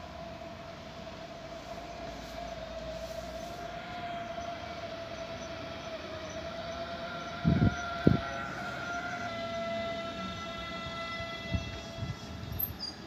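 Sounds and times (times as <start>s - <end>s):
low running rumble: 0.0s - 12.8s
electric train whine: 0.0s - 13.0s.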